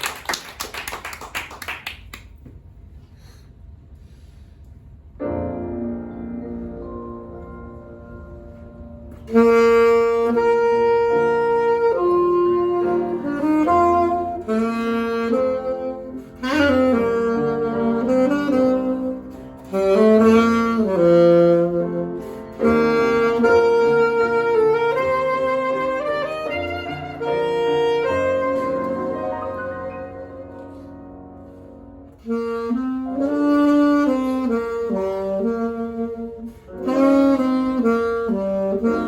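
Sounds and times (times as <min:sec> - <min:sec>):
alto saxophone jazz melody: 0:05.2 - 0:39.0.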